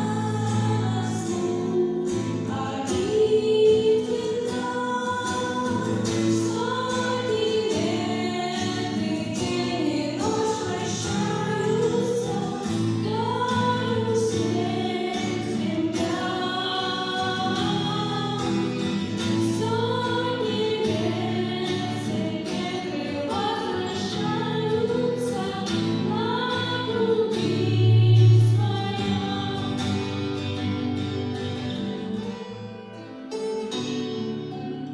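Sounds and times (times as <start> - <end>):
song with sung vocals: 0.0 - 32.6.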